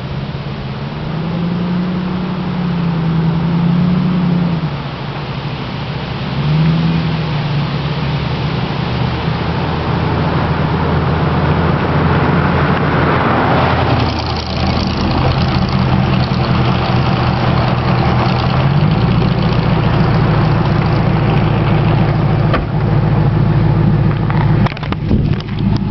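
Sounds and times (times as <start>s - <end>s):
loud deep car exhaust: 0.0s - 25.9s.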